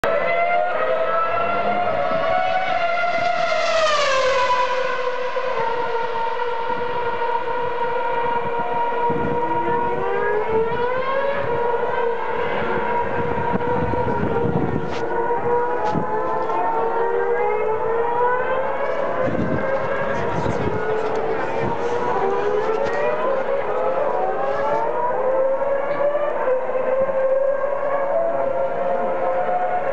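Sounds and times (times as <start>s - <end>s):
racing car engines at high revs: 0.1s - 29.9s.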